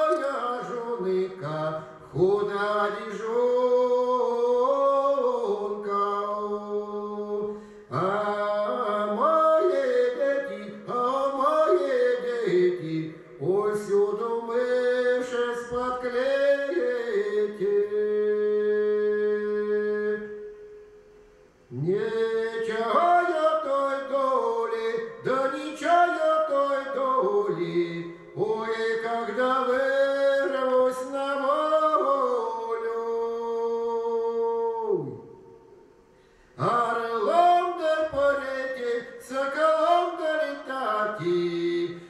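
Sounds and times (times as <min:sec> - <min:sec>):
man singing drawn-out phrases: 0:00.0 - 0:20.4, 0:21.7 - 0:35.4, 0:36.6 - 0:42.0.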